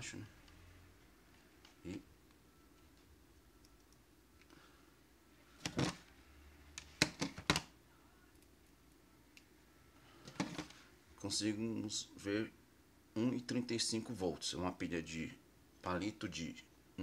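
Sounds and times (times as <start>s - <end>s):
faint room tone: 0.0s - 17.0s.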